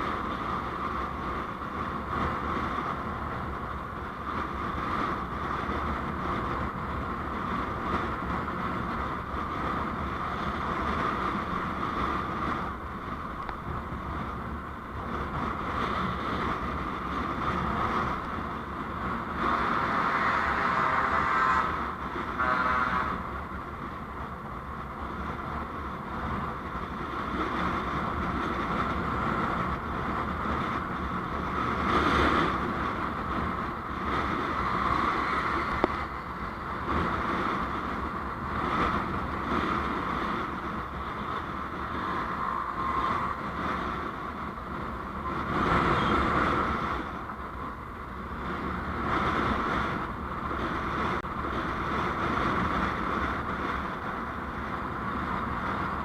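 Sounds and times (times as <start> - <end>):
vehicle engine and tyre noise: 0.0 - 56.0
wind on microphone: 0.0 - 56.0.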